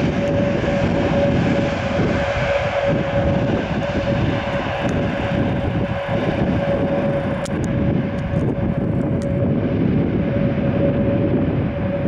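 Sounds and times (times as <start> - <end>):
jet engine rumble with whine: 0.0 - 12.0.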